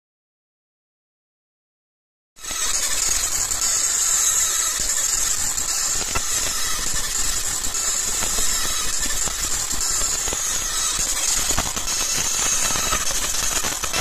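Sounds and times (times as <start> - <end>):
laser marking machine hissing: 2.4 - 14.0.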